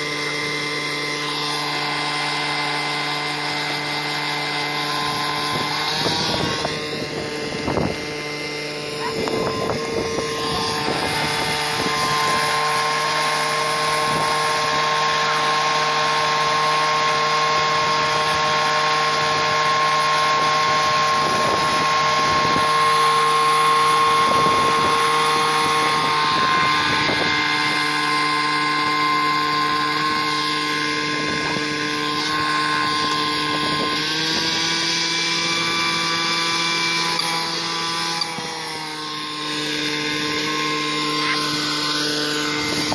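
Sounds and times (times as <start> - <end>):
motor humming: 0.0 - 42.9.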